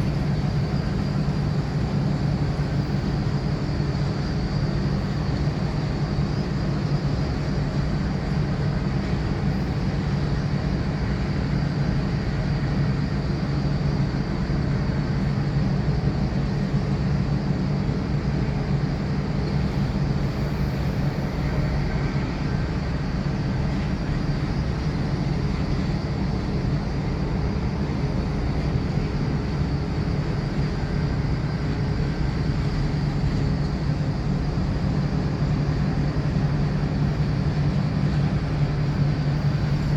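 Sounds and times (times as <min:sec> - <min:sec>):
low mechanical drone: 0:00.0 - 0:39.9.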